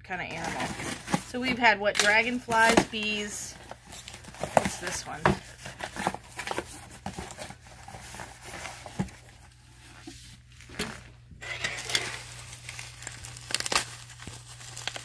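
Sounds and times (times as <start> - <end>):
plastic wrapping rustling: 0.1 - 15.0.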